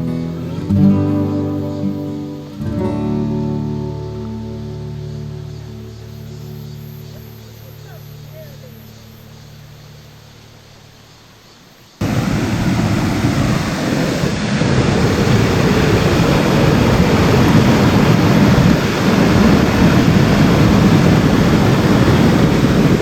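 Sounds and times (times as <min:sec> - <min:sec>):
stream water rushing: 0:00.0 - 0:23.0.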